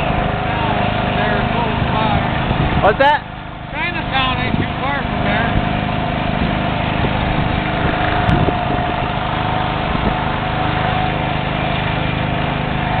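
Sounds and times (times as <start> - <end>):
diesel engine idling: 0.0 - 13.0
steady whine: 0.0 - 13.0.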